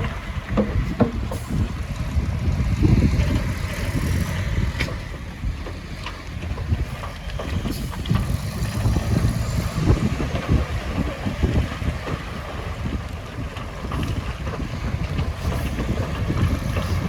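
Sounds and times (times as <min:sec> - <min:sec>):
diesel engine rumbling: 0:00.0 - 0:17.0
wind buffeting microphone: 0:00.0 - 0:17.0.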